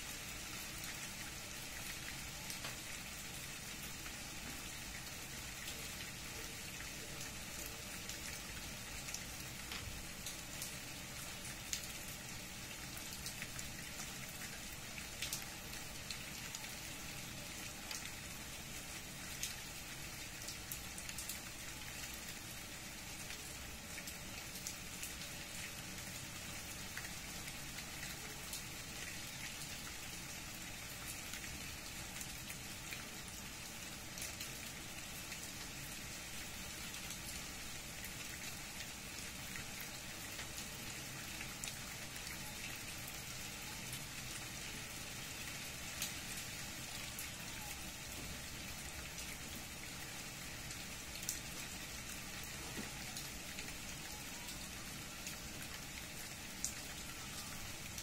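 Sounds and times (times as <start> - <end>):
rain through tree leaves: 0.0 - 58.0.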